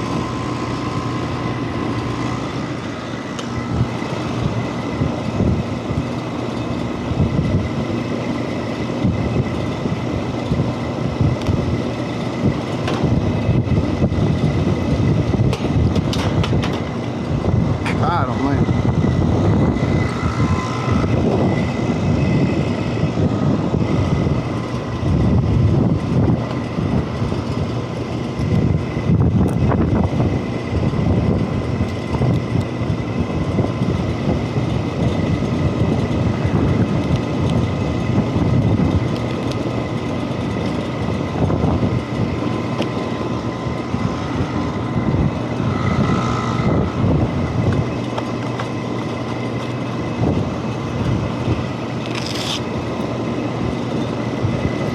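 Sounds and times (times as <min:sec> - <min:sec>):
hvac fan and compressor rumble: 0:00.0 - 0:54.9.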